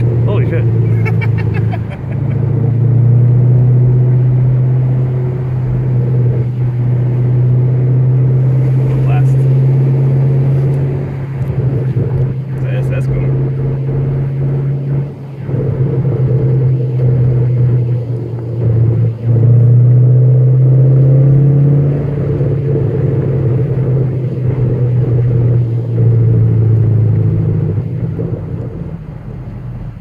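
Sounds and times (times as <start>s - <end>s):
car engine heard from inside cabin: 0.0s - 30.0s.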